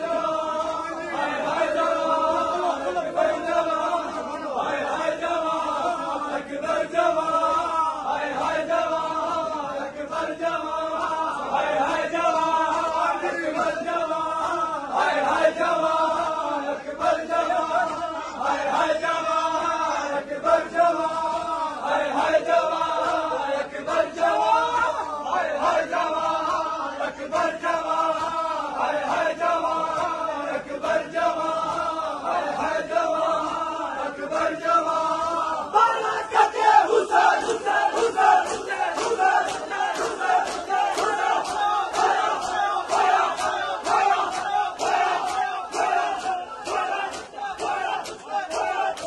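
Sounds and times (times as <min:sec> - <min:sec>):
men chanting in unison: 0:00.0 - 0:49.0.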